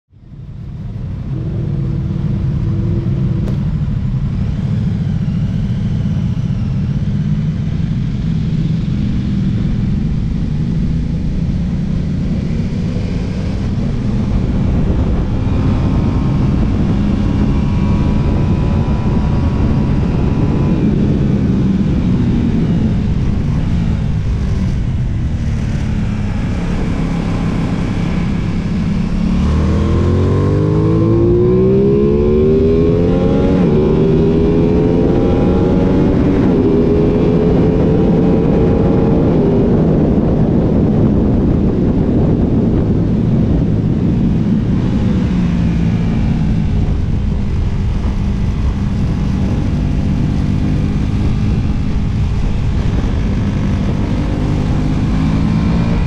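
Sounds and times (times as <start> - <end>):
motorcycle engine rumble: 0.1 - 56.0
wind rumble: 0.1 - 56.0.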